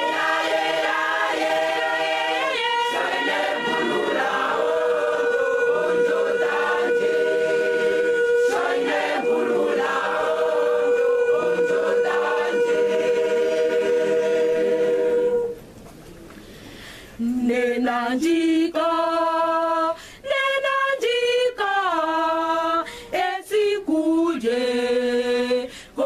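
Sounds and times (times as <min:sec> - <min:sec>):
large choir singing: 0:00.0 - 0:15.6, 0:17.5 - 0:25.7.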